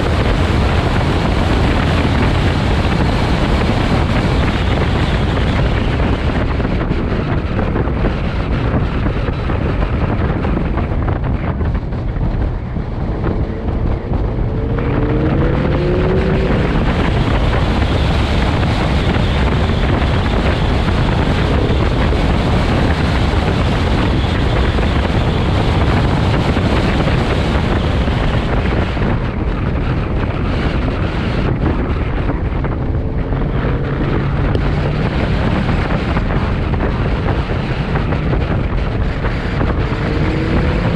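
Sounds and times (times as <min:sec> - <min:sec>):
car engine accelerating: 0:00.0 - 0:40.9
road noise: 0:00.0 - 0:40.9
wind buffeting microphone: 0:00.0 - 0:40.9.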